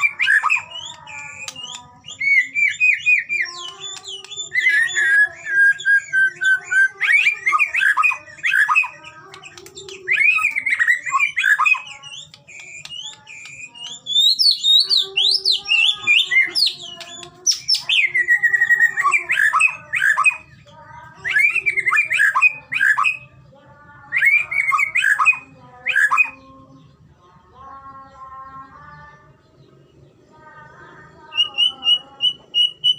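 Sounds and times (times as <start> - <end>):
bird whistling and chattering: 0.0 - 23.3, 24.1 - 26.4, 31.3 - 32.9.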